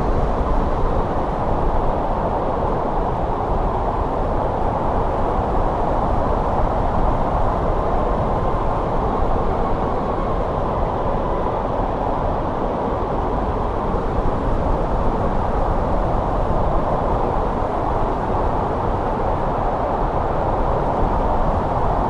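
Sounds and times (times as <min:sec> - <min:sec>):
muffled rushing wind: 0:00.0 - 0:22.0.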